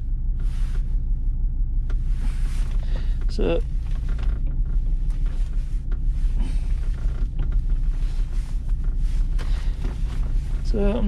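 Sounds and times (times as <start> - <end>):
diesel car engine idling: 0.0 - 11.0.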